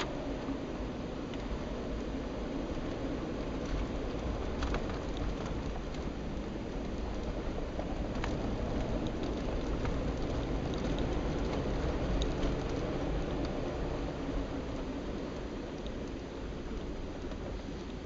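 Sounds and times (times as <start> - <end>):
engine and tyres rumbling: 0.0 - 18.0.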